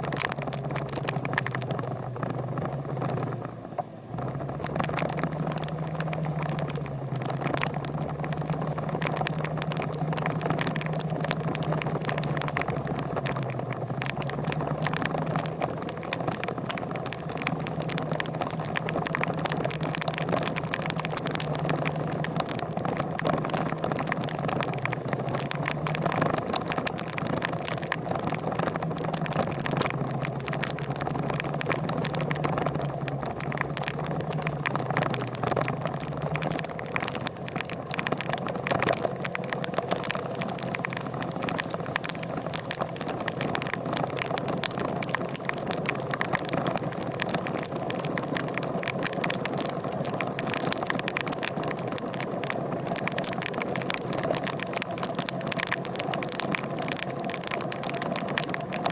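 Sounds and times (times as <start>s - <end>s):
small crackles and clicks: 0.0s - 58.9s.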